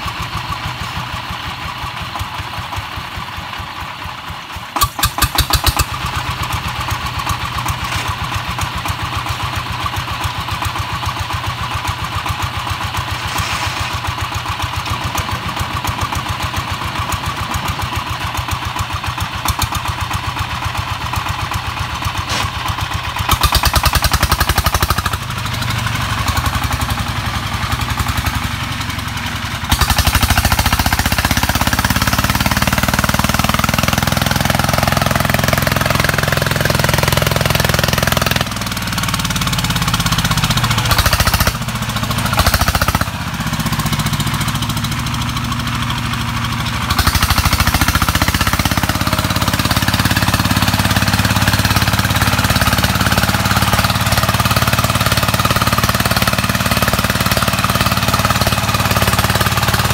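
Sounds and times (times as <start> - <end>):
single-cylinder diesel engine running: 0.0 - 59.9.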